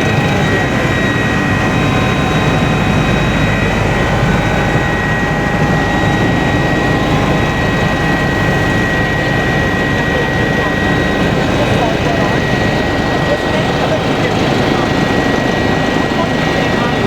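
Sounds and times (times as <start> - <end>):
helicopter roar from inside cabin: 0.0 - 17.0.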